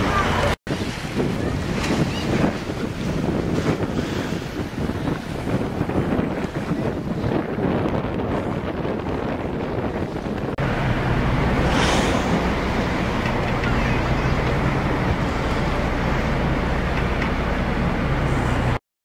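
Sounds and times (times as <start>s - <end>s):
boat engine hum: 0.0s - 18.8s
wind buffeting microphone: 0.0s - 18.8s.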